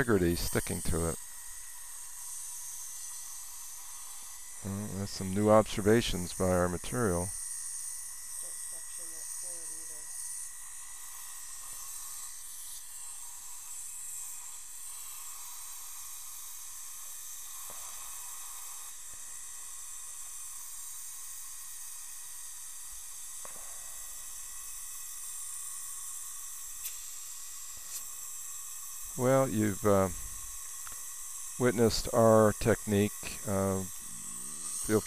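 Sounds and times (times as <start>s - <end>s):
dental equipment hissing: 0.0s - 35.0s.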